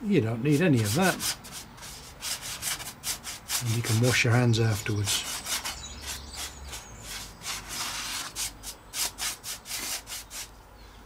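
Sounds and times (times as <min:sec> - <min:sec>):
scratchy brush strokes: 0:00.3 - 0:10.5.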